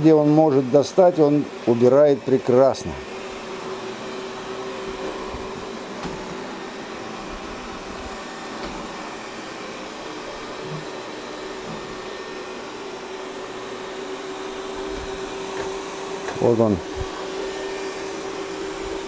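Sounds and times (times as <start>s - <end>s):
robot vacuum cleaner humming: 0.0s - 19.0s.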